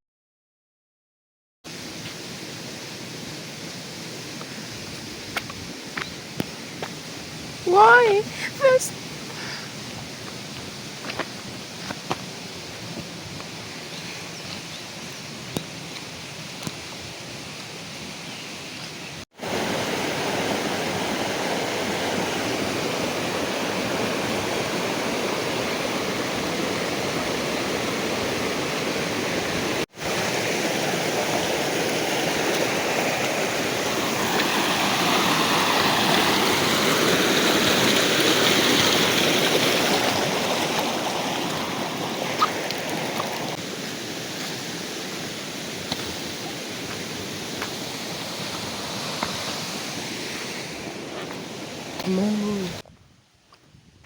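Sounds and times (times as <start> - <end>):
rushing water: 1.7 - 52.8.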